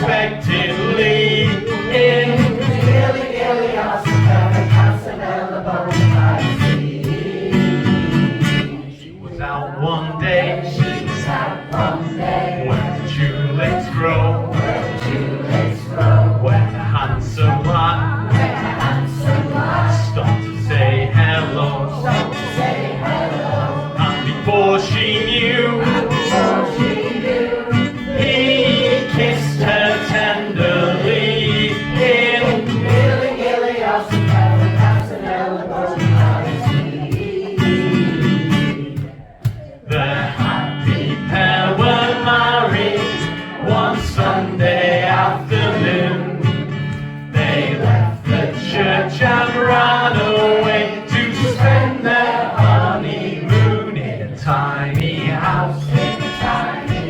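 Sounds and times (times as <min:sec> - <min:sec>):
choir singing upbeat song: 0:00.0 - 0:57.0
guitar accompaniment: 0:00.0 - 0:57.0.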